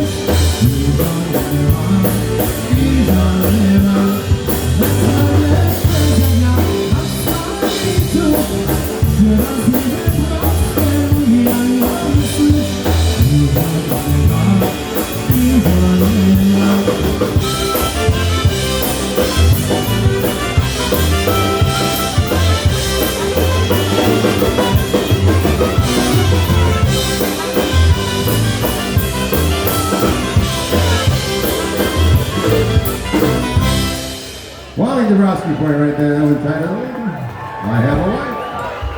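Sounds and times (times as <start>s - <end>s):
polka band playing: 0.0s - 38.9s.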